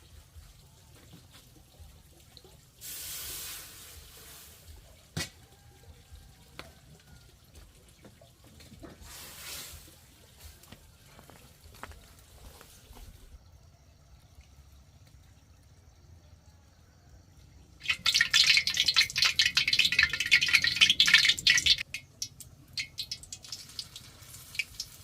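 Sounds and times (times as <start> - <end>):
water pouring and splashing: 0.0 - 13.4, 17.8 - 25.0.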